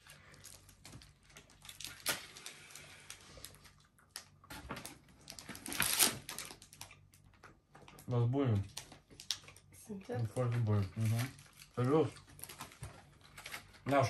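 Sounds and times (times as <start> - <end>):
wrappers crinkling: 0.0 - 8.0, 8.6 - 14.0.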